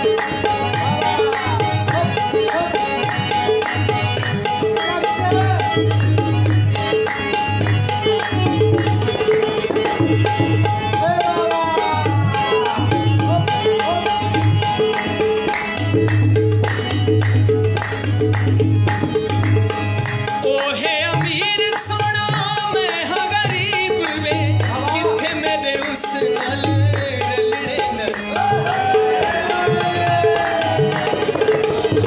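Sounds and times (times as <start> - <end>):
background music with hand drum: 0.0 - 32.0.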